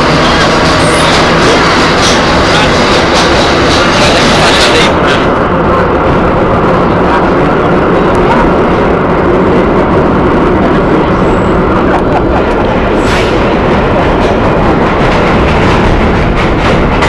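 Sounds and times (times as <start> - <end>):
subway train wheels rumbling on rail: 0.0 - 17.0.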